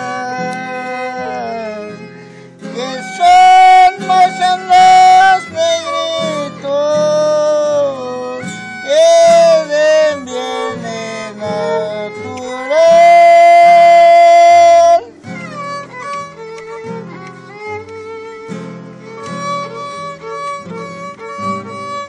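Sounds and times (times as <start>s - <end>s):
strummed guitar: 0.0s - 22.0s
violin melody: 0.0s - 22.0s.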